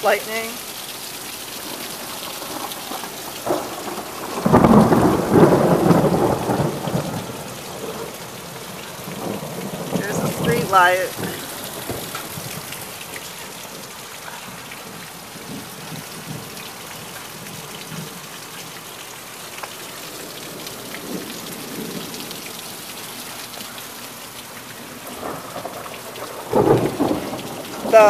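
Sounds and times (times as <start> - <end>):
drops dripping off roof eave: 0.0 - 28.0
heavy rain pouring: 0.0 - 28.0.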